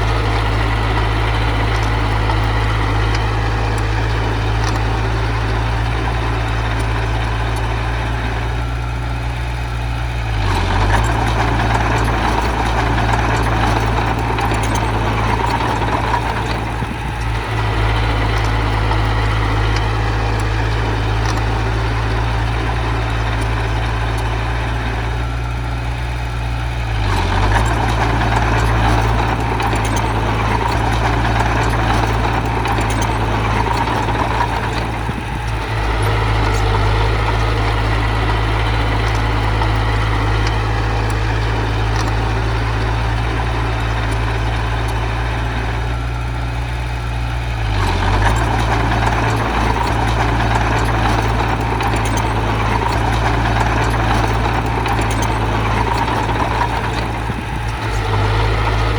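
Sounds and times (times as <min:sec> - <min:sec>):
heavy machine diesel engine: 0:00.0 - 0:58.9.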